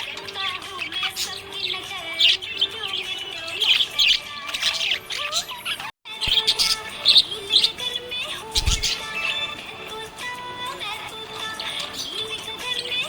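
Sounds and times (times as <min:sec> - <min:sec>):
budgerigar chirping and warbling: 0:00.0 - 0:13.0.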